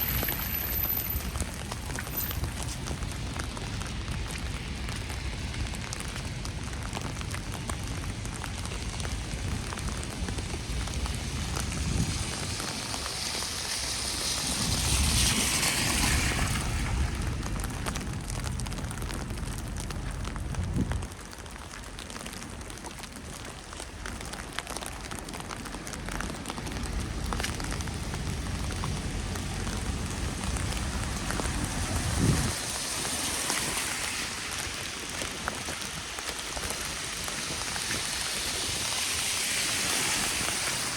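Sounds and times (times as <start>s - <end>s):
vehicle tyres hissing on wet road: 0.0s - 40.9s
wet snow pattering: 0.0s - 40.9s.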